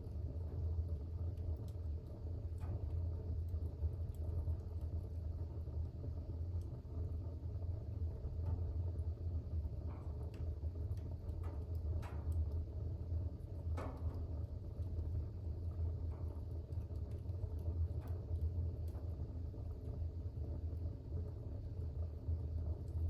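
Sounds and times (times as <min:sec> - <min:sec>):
fire crackling in fireplace: 0:00.0 - 0:23.0.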